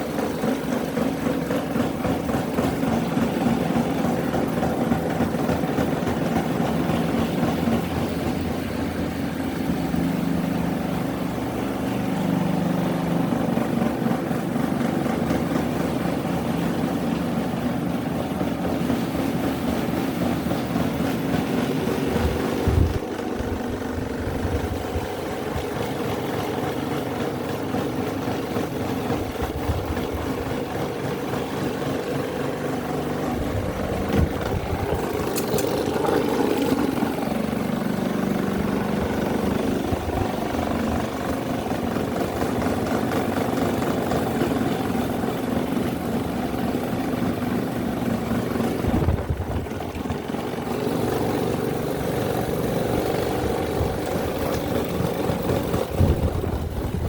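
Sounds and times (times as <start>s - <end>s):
electric fans whirring: 0.0s - 57.0s.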